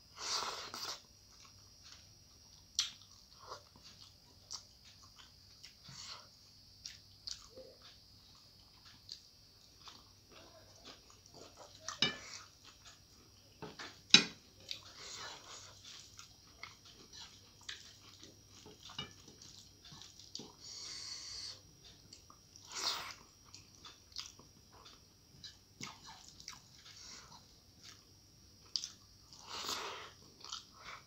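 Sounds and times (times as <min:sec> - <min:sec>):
chewing and mouth smacks: 0:00.7 - 0:06.0, 0:06.8 - 0:14.0, 0:14.6 - 0:20.6, 0:21.8 - 0:29.4.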